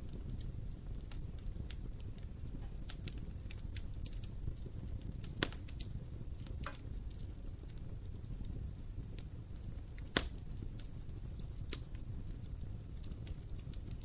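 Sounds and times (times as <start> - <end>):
fire pops and snaps: 0.0 - 14.0
low rumble of flames: 0.0 - 14.0.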